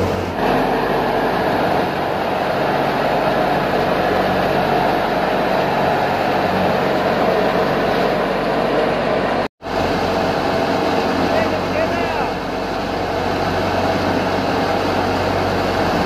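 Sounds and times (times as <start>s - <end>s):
wheat thresher running: 0.0s - 16.0s.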